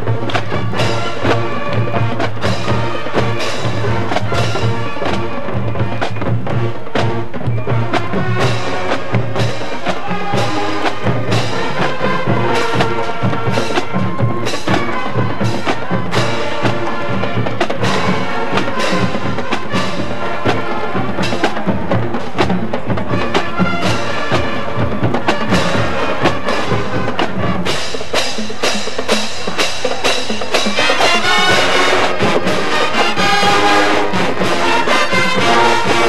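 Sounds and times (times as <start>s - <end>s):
drumline striking: 0.0s - 36.0s
marching band brass: 0.0s - 36.0s.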